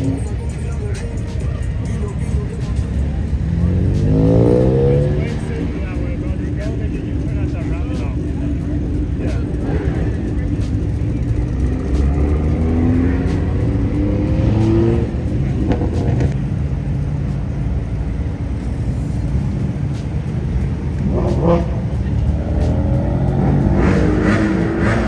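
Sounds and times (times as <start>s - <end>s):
car engines accelerating: 0.0s - 25.0s
low engine rumble: 0.0s - 25.0s.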